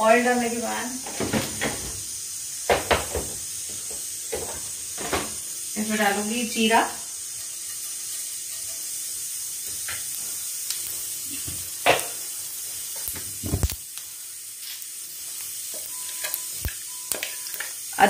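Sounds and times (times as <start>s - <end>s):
seeds sizzling in hot oil: 0.0s - 18.0s.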